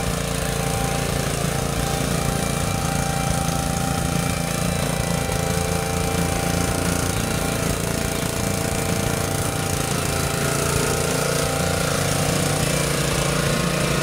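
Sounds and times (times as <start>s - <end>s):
cultivator engine running under load: 0.0s - 14.0s.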